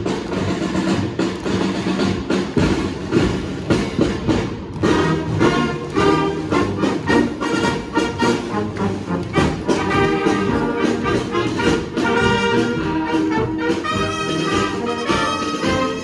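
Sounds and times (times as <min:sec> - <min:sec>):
drums beating: 0:00.0 - 0:16.0
marching brass band playing: 0:00.0 - 0:16.0.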